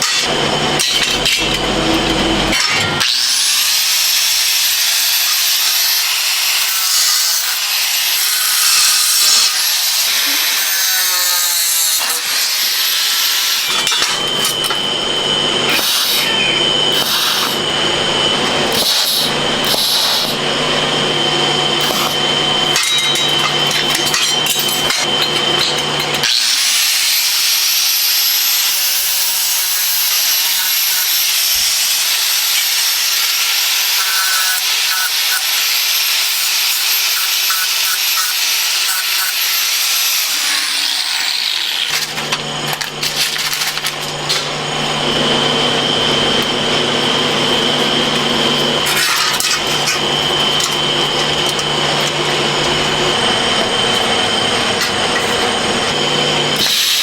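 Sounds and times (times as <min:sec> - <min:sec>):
machine humming and whining: 0:00.0 - 0:57.0
power tool hissing and whining: 0:00.0 - 0:57.0.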